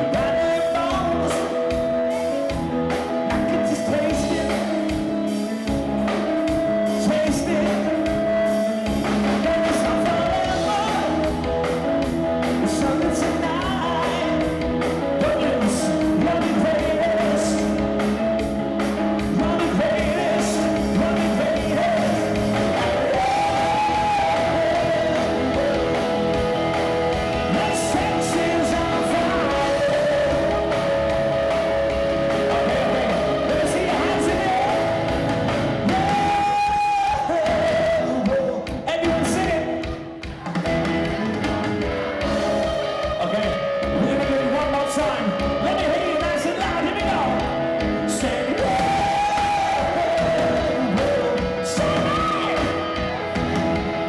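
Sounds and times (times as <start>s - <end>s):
male singer singing: 0.0s - 53.4s
pop rock band playing: 0.0s - 54.0s.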